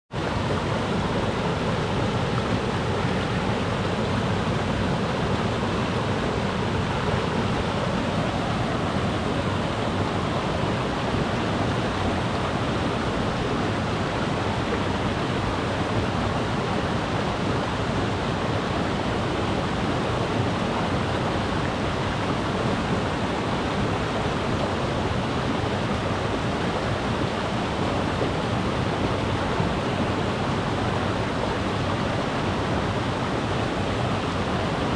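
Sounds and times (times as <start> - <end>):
river rushing over rocks: 0.1 - 34.9.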